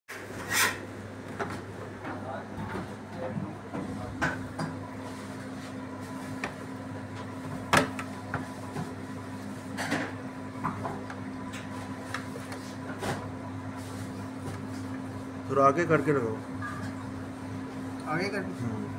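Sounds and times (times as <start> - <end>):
low machine hum: 0.2 - 18.9.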